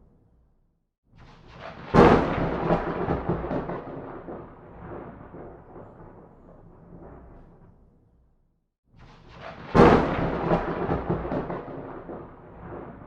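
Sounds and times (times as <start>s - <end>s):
thunderclap crack and rumble: 1.2s - 8.2s, 9.0s - 13.0s.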